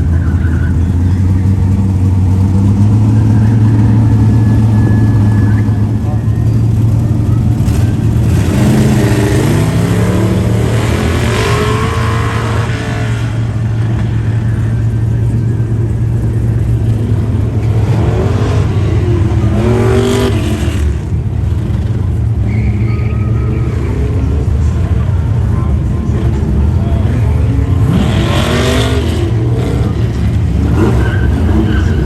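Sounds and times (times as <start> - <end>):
car engine revving: 0.0 - 22.7, 23.5 - 32.0.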